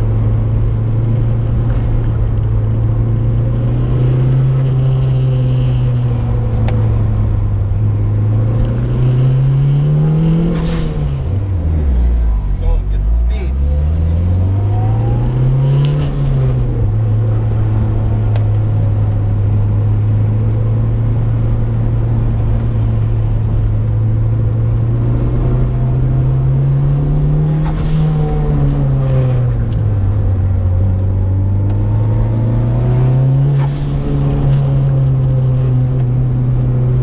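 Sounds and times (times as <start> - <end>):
car engine running hard: 0.0 - 37.0.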